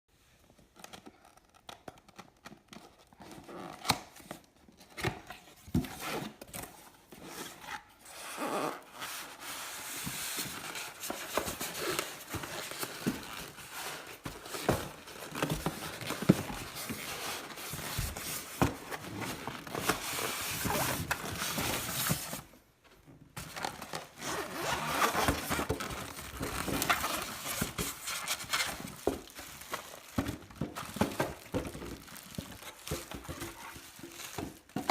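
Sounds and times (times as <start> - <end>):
scraping and rustling handling noise: 0.4 - 34.9.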